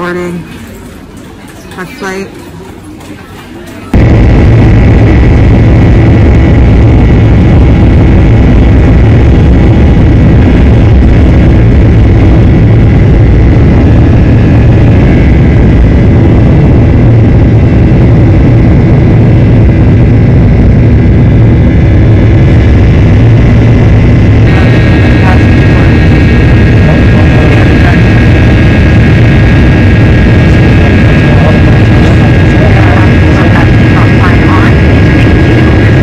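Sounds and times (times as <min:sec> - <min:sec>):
high engine whine: 0:03.8 - 0:36.0
jet engines roaring: 0:03.9 - 0:36.0.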